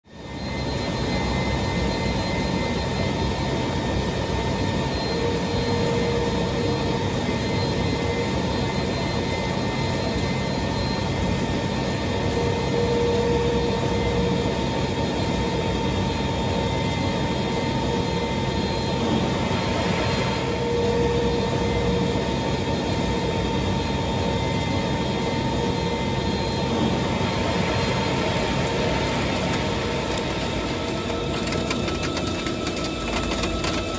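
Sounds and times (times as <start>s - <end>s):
high machine whine: 0.0s - 33.9s
machine mechanical hum: 0.1s - 33.9s.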